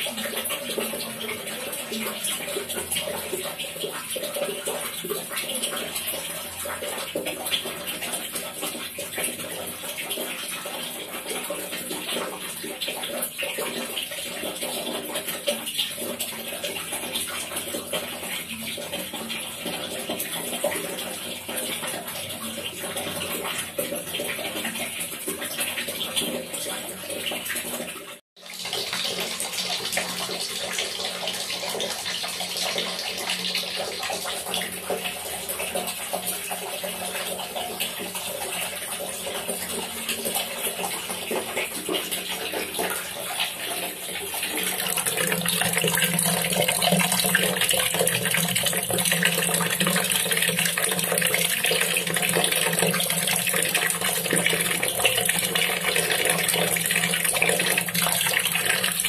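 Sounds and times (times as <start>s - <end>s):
water running into a tub: 0.0s - 59.0s.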